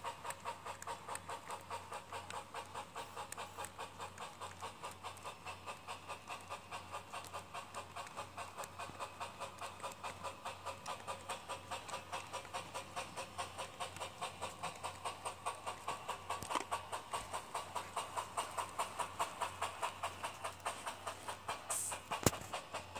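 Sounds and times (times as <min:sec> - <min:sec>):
toy train motor hum: 0:00.0 - 0:22.9
toy train wheels clicking: 0:00.0 - 0:22.9.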